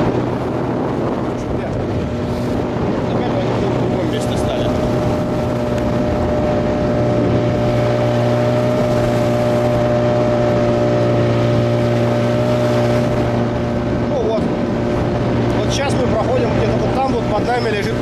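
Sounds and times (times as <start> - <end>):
outboard motor humming: 0.0 - 18.0.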